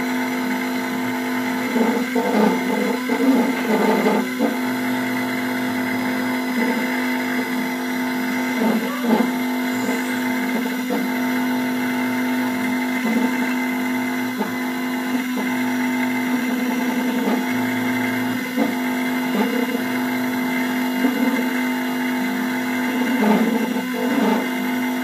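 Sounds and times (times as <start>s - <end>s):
engraving machine milling metal: 0.0s - 25.0s.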